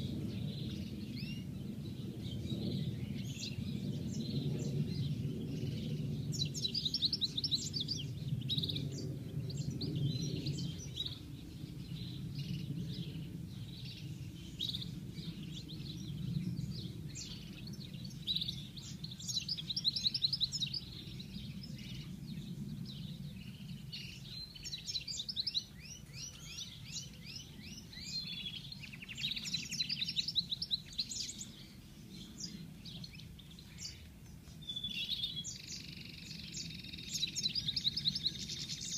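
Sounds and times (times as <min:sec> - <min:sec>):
bird twittering trills: 0:00.0 - 0:38.9.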